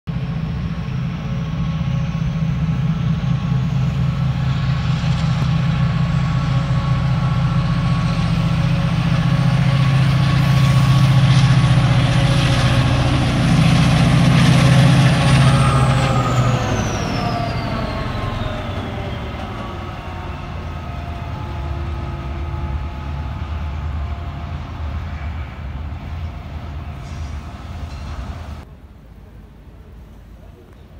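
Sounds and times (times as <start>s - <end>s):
train engine drone: 0.1s - 30.9s.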